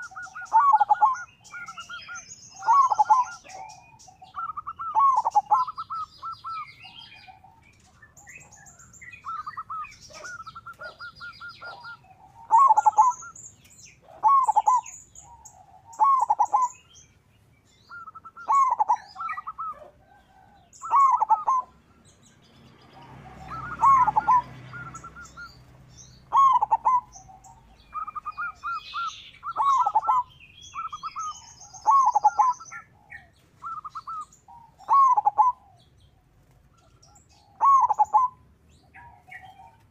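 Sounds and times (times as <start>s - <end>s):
dove cooing: 0.0s - 17.1s, 17.8s - 21.8s, 22.7s - 39.9s
small birds chirping: 0.0s - 39.9s.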